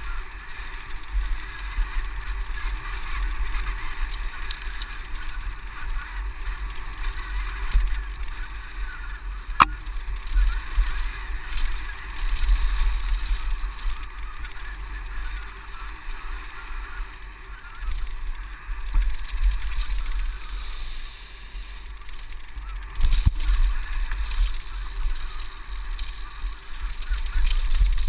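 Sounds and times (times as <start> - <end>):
bike rattling over ground: 0.0 - 28.0.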